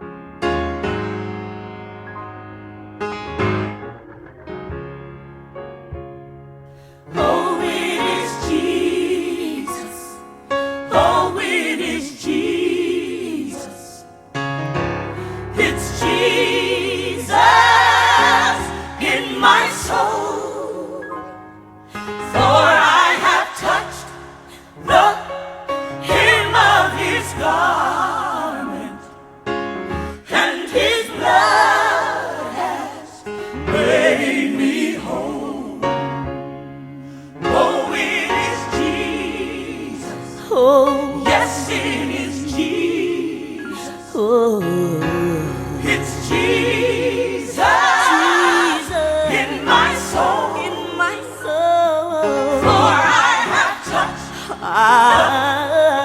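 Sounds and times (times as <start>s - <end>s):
musical accompaniment: 0.0s - 56.0s
gospel singing with vibrato: 6.7s - 56.0s.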